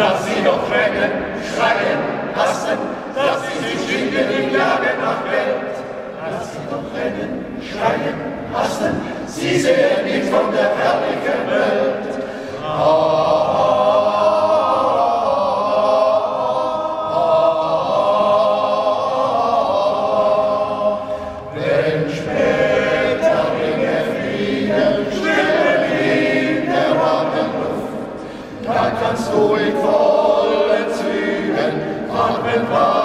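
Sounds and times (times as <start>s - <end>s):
men's choir singing: 0.0s - 33.0s.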